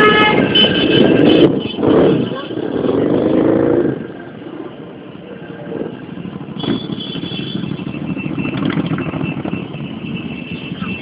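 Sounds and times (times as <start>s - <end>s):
motorcycle engines in traffic: 0.0s - 11.0s.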